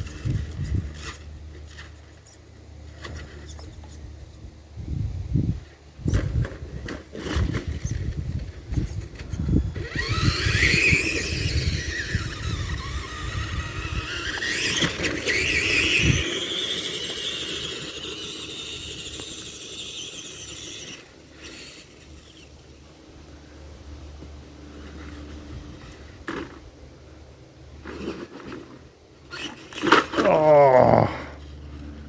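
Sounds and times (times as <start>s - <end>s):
toy truck electric motor whining: 0.0s - 2.2s, 6.1s - 26.7s, 27.7s - 30.6s.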